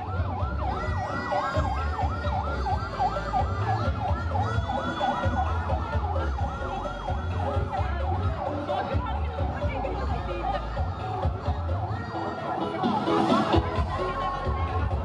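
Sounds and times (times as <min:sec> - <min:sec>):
heavy bass music: 0:00.0 - 0:15.0
yelping siren: 0:00.0 - 0:15.0.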